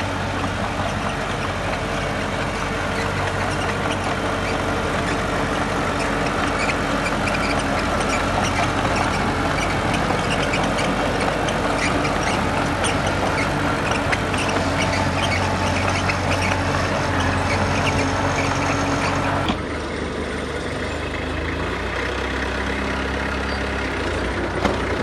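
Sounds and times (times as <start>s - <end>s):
diesel machinery engine running: 0.0s - 25.0s.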